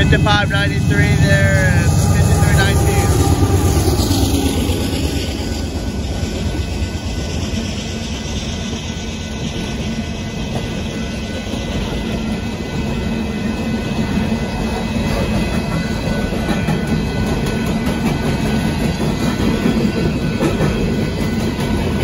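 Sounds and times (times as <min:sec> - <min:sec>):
train wheels rumbling and clattering: 0:00.0 - 0:22.0.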